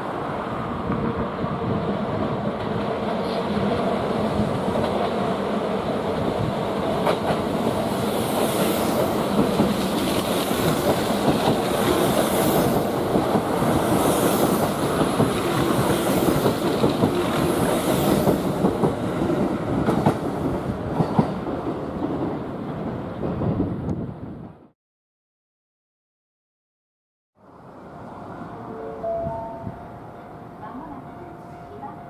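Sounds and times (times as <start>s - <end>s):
electric train rumbling: 0.0s - 24.7s, 27.4s - 32.0s.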